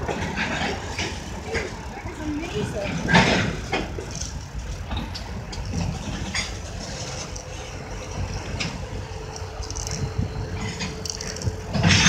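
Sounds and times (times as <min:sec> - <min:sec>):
faint steady whine: 0:00.0 - 0:12.0
freight train rumbling: 0:00.0 - 0:12.0
train clicks and clanks: 0:00.0 - 0:12.0.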